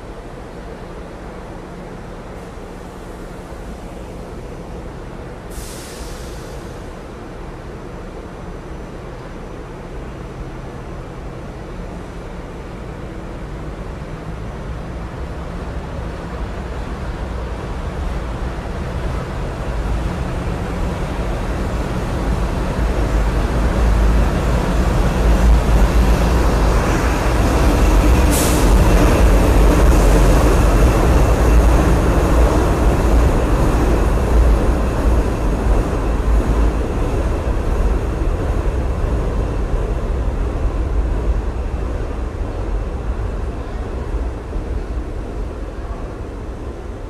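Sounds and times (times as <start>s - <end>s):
locomotive engine drone: 0.0s - 47.0s
wheels rumbling on rail: 0.0s - 47.0s.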